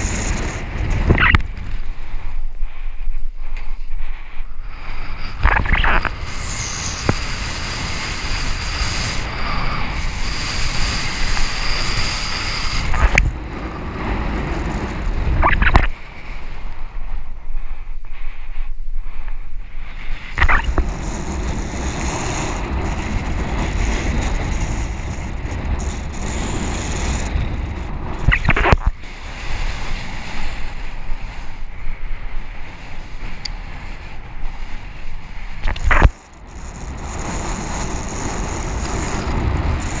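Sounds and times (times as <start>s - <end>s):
sharp bursts of noise: 0.0s - 2.0s, 4.5s - 16.4s, 20.0s - 31.4s, 32.5s - 40.0s
wind buffeting microphone: 0.0s - 40.0s.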